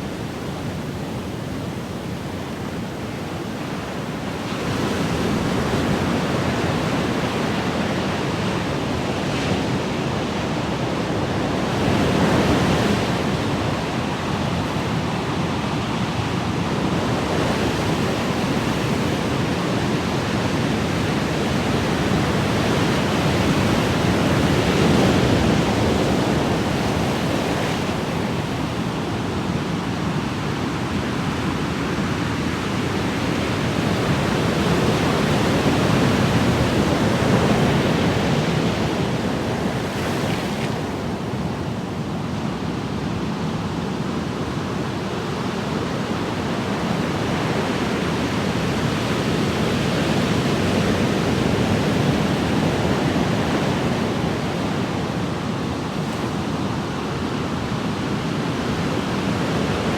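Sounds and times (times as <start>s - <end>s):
ocean waves washing on shore: 0.0s - 59.9s.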